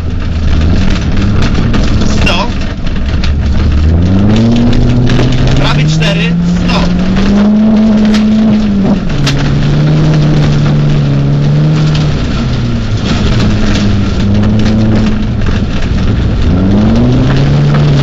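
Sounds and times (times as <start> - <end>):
mud and stones hitting car: 0.0 - 18.0
rally car engine revving: 0.0 - 18.0.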